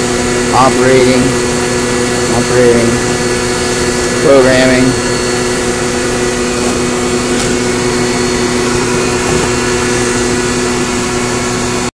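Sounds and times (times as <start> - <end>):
shop machinery motor hum: 0.0 - 11.9.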